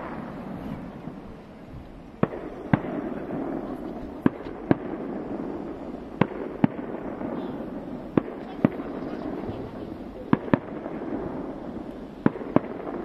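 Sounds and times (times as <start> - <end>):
continuous fireworks rumble: 0.0 - 13.0
firework shells bursting: 0.0 - 13.0.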